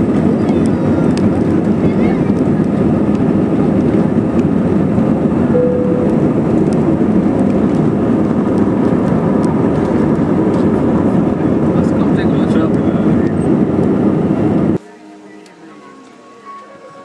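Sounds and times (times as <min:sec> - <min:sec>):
jet engines rumbling in cabin: 0:00.0 - 0:14.8.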